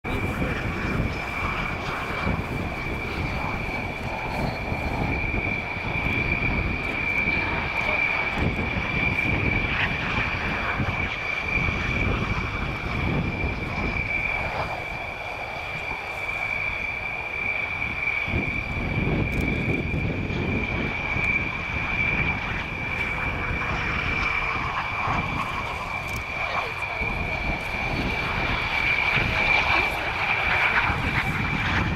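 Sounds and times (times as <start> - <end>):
distant jet engine rumble: 0.0 - 31.9
steady high whine: 0.0 - 31.9.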